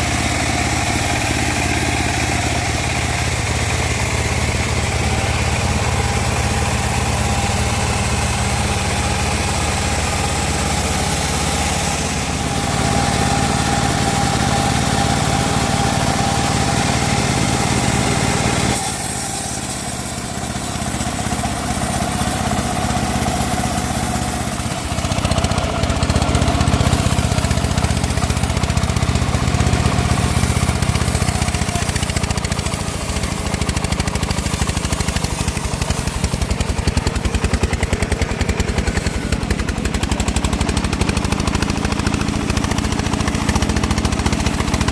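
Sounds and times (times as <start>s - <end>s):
bandsaw sawing wood: 0.0s - 44.9s.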